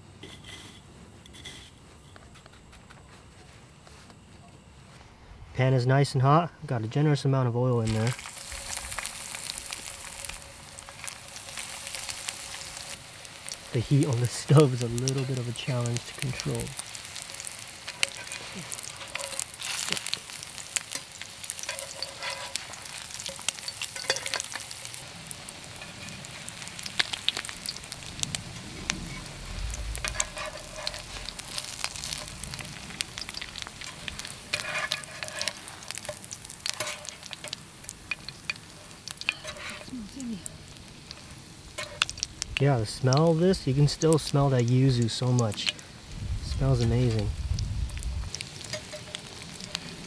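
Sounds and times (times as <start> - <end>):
food sizzling in hot oil: 7.8 - 50.0.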